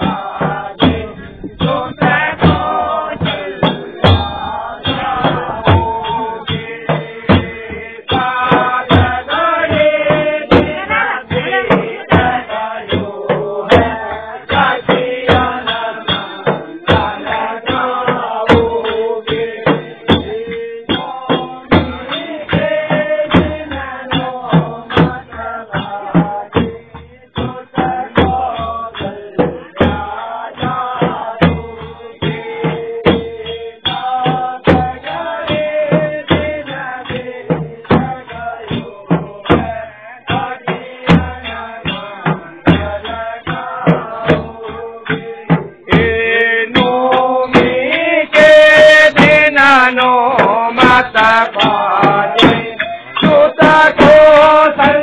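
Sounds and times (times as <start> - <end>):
person singing a melody: 0.0 - 55.0
steady drum beat: 0.0 - 55.0.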